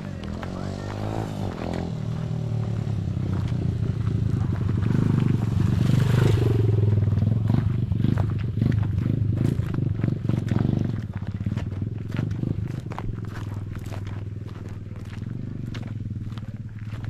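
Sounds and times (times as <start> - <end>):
small engine vehicle passing: 0.0 - 17.0.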